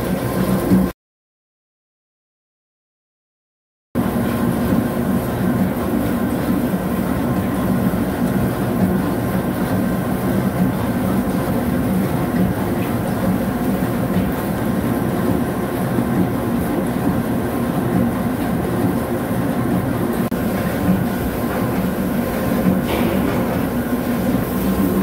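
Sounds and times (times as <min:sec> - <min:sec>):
lathe rumbling: 0:04.0 - 0:25.0.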